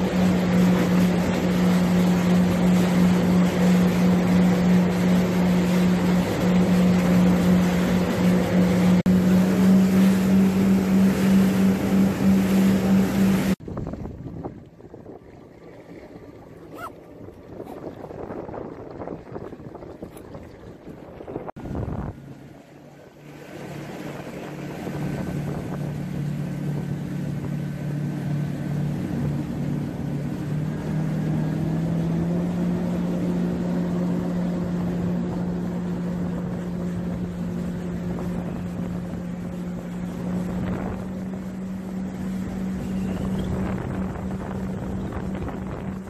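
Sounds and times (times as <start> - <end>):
jet ski engine running: 0.0 - 46.0.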